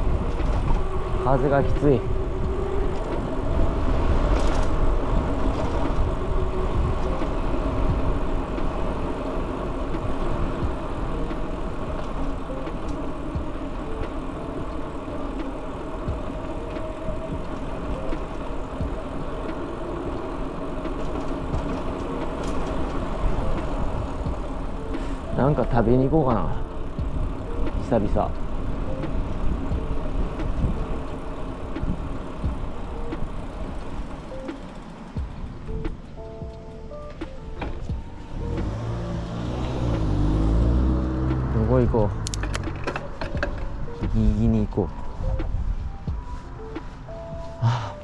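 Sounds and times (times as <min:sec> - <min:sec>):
wind rumbling on microphone: 0:00.0 - 0:48.0.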